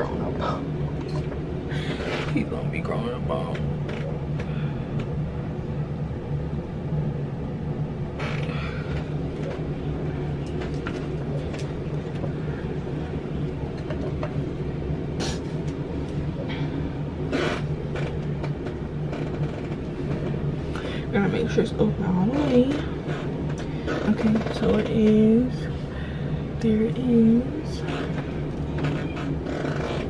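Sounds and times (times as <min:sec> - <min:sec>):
exhaust fan humming: 0:00.0 - 0:30.0.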